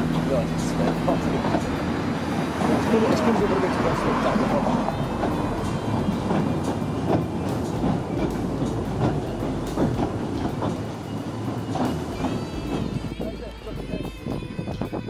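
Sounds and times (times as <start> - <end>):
train wheels knocking over rail joints: 0.0 - 13.4
train rumble: 0.0 - 15.0.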